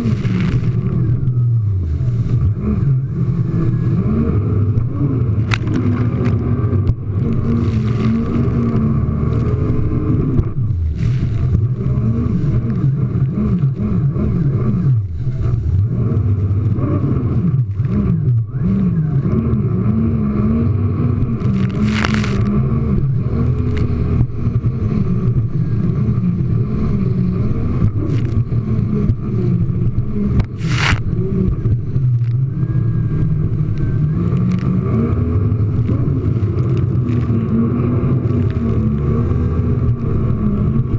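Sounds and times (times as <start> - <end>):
jet ski engine running: 0.0 - 40.9.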